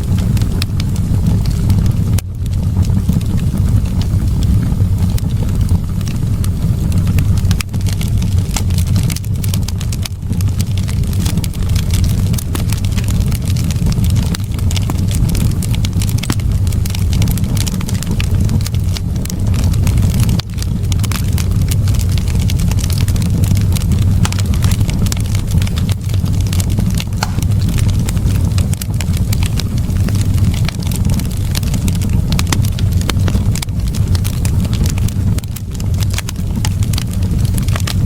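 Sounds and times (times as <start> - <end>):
fire crackling and popping: 0.0 - 38.0
fire flames rushing: 0.0 - 38.0.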